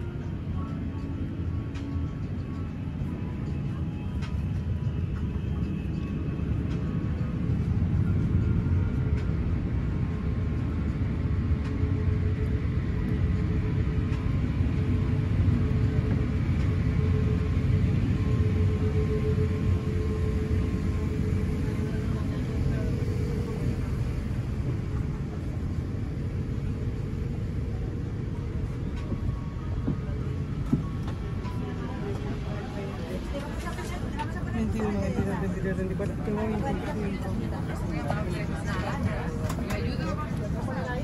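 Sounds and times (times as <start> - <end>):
aircraft cabin rumble: 0.0 - 41.0.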